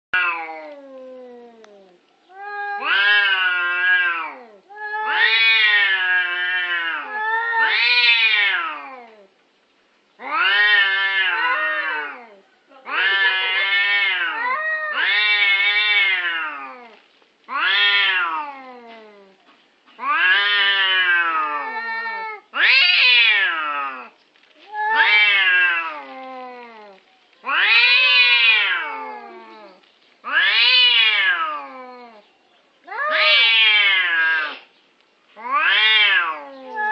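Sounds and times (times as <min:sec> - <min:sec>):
cats yowling: 0:00.2 - 0:09.3, 0:10.2 - 0:19.4, 0:20.0 - 0:32.2, 0:32.8 - 0:34.7, 0:35.4 - 0:36.9.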